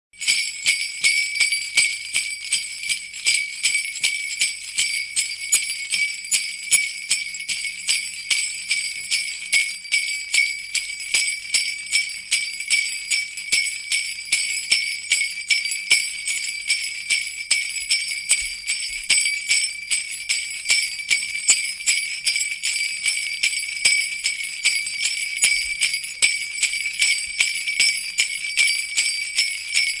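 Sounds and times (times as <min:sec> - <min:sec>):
jingle bells shaken: 0:00.2 - 0:30.0.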